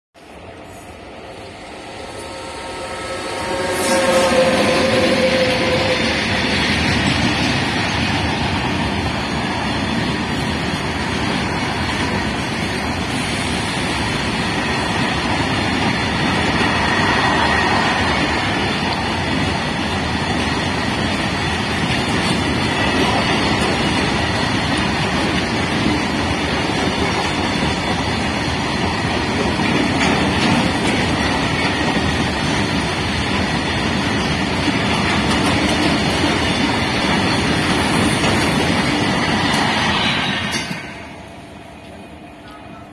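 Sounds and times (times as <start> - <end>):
train wheels rumbling on rails: 0.2 - 42.9.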